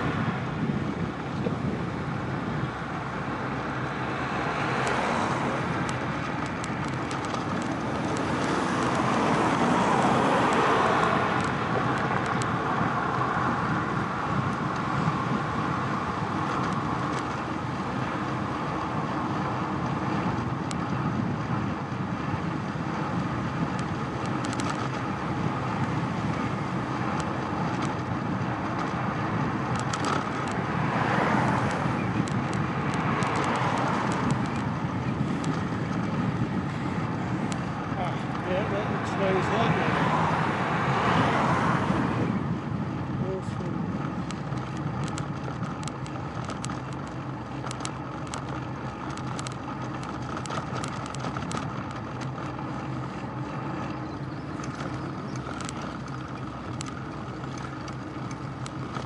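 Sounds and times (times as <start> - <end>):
vehicles passing: 0.0 - 59.0
wind and tyre noise: 0.0 - 59.0.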